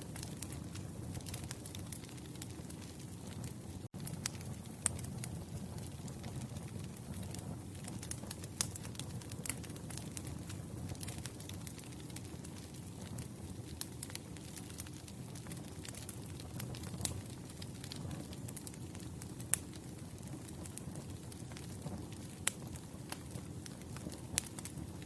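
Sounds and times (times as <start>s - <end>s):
campfire flames rushing: 0.0s - 25.0s
fire crackling and popping: 0.0s - 25.0s.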